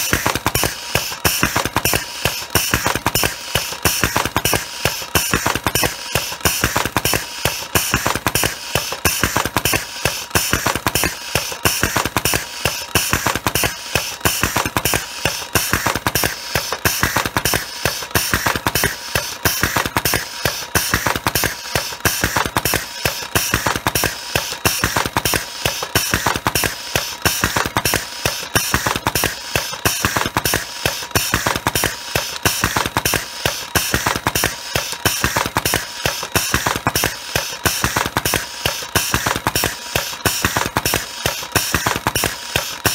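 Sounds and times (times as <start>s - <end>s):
machine clacking rhythmically: 0.0s - 42.9s.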